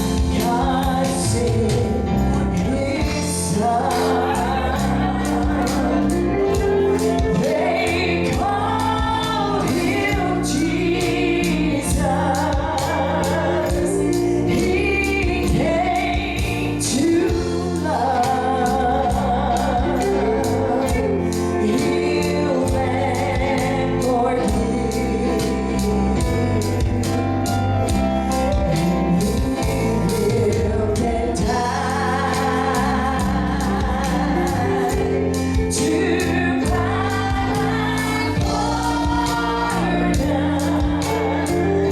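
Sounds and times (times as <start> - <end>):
gospel choir singing: 0.0 - 41.9
instrumental backing with beat: 0.0 - 41.9.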